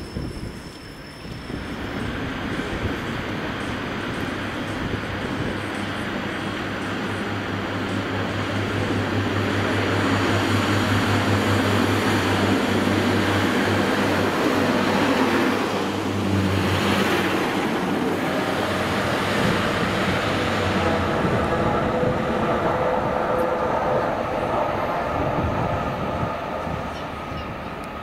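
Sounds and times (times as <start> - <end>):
heavy train rumbling: 0.0 - 28.0
low train engine drone: 0.0 - 28.0.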